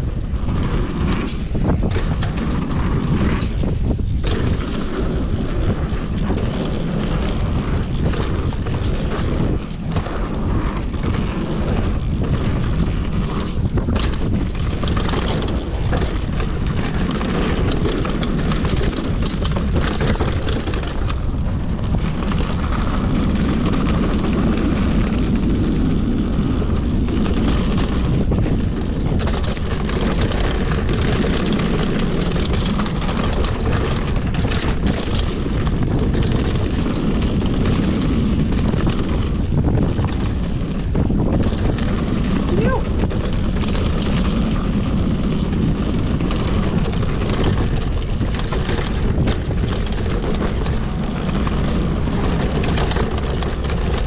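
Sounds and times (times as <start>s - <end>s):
bike rattling and knocking: 0.0s - 54.0s
tyres crunching over gravel: 0.0s - 54.0s
wind rumbling on microphone: 0.0s - 54.0s.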